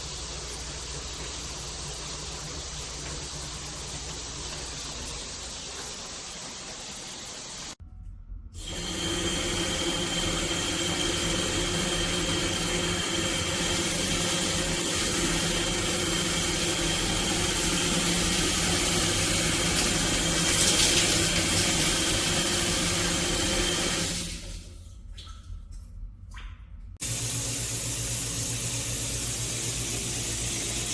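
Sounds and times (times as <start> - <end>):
shower spraying water: 0.0 - 7.8, 8.6 - 24.7, 27.0 - 30.9.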